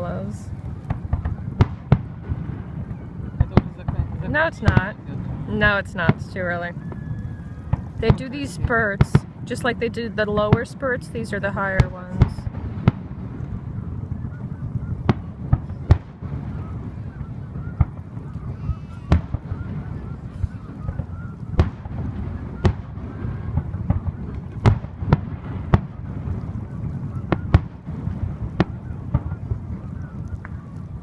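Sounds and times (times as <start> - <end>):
fireworks booming: 0.0 - 31.0
low rumble: 0.0 - 31.0.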